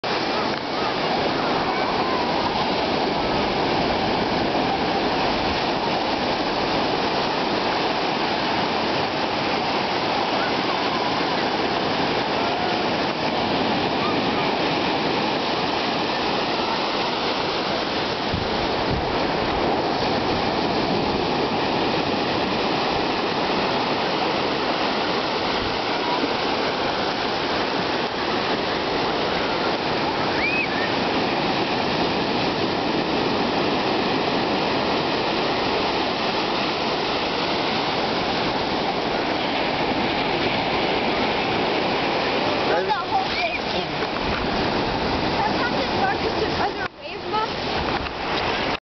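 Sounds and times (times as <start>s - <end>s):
ocean waves breaking: 0.0s - 48.8s.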